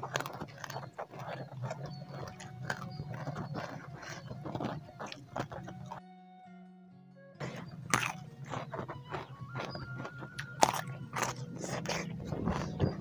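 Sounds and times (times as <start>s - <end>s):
chewing with lip smacks: 0.0s - 6.0s, 7.4s - 13.0s.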